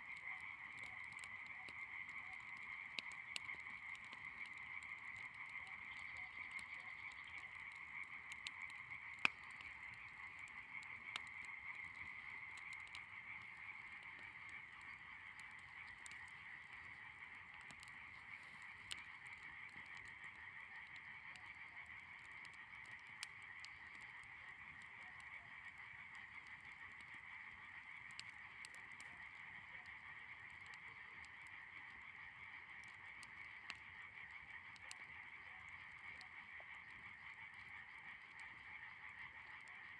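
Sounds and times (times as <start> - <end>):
frogs calling: 0.0 - 39.9.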